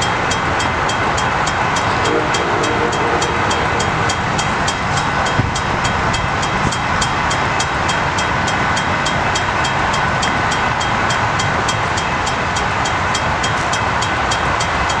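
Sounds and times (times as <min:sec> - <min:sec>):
train rushing and ticking: 0:00.0 - 0:15.0.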